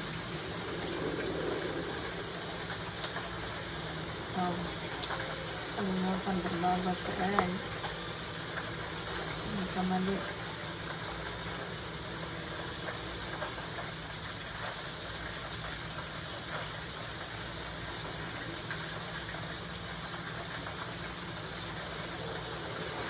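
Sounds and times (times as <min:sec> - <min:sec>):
faint crackles: 0:00.0 - 0:23.0
low steady hum: 0:00.0 - 0:23.0
squid sizzling in hot oil: 0:00.0 - 0:23.0.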